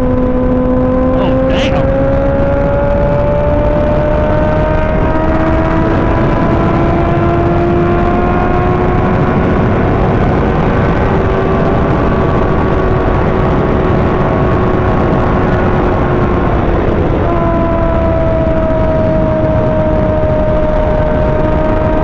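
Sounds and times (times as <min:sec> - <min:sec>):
motorcycle engine running: 0:00.0 - 0:22.0
wind rush on microphone: 0:00.0 - 0:22.0.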